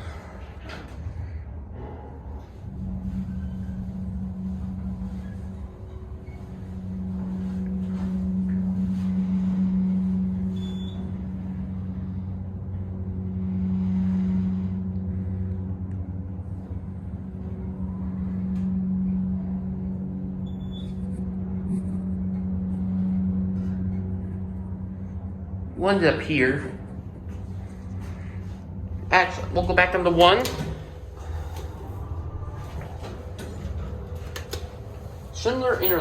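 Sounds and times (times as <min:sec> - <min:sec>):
elevator pump motor humming: 0:00.0 - 0:36.0.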